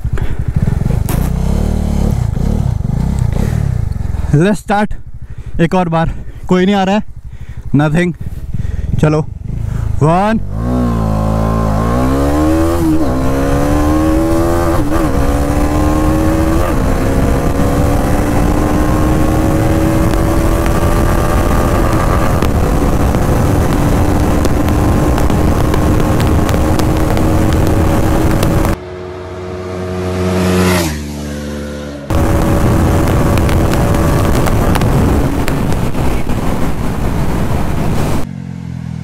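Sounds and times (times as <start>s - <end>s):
motorcycle passing by: 0.0s - 4.2s, 10.4s - 39.0s
heavy wind noise: 0.0s - 28.8s, 32.1s - 38.3s
motorcycle engine at full throttle: 0.0s - 39.0s.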